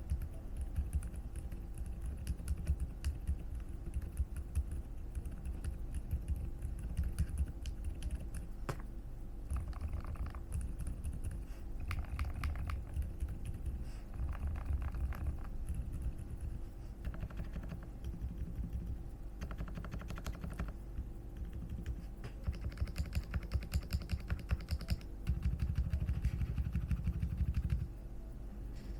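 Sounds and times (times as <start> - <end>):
muted keyboard typing: 0.0 - 8.8, 9.5 - 27.9.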